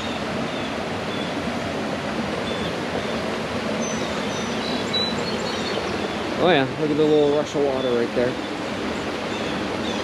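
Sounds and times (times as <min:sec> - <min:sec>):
river water over small waterfall: 0:00.0 - 0:10.0.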